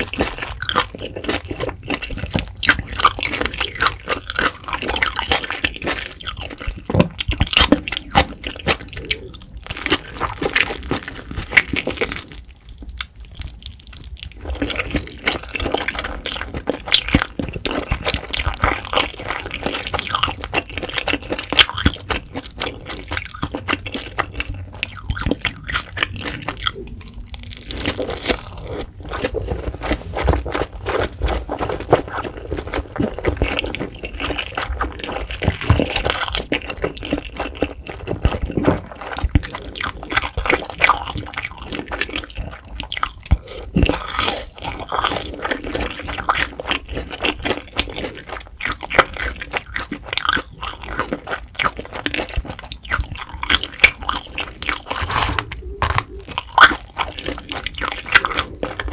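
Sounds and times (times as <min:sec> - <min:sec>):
wet chewing and smacking: 0:00.0 - 0:58.9.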